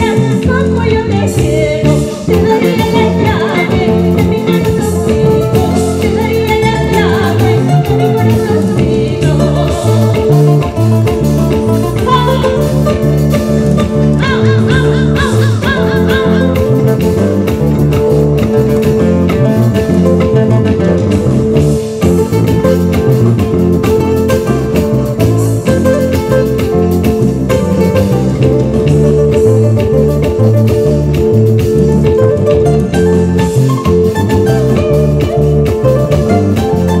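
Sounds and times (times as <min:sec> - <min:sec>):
acoustic guitars: 0:00.0 - 0:37.0
electric bass guitar: 0:00.0 - 0:37.0
steady beat: 0:01.5 - 0:37.0.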